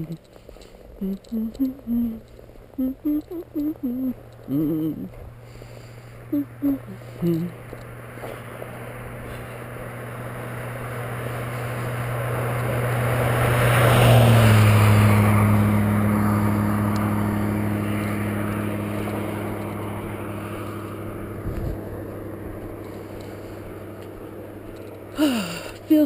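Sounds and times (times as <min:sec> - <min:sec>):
vehicle passing at speed: 0:00.0 - 0:25.2.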